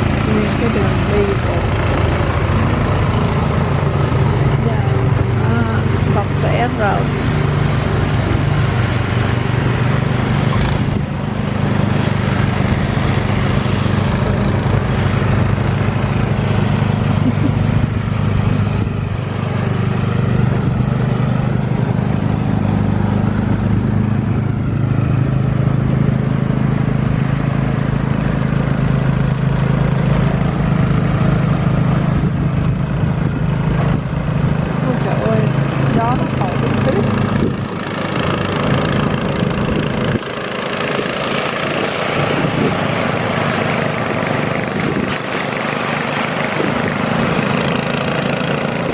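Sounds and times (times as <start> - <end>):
snowblower engine running: 0.0 - 48.9.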